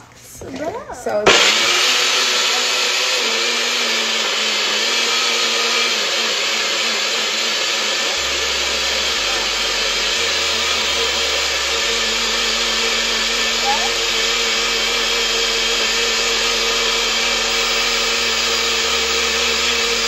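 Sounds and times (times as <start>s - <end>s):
blender motor whine: 1.2s - 20.0s.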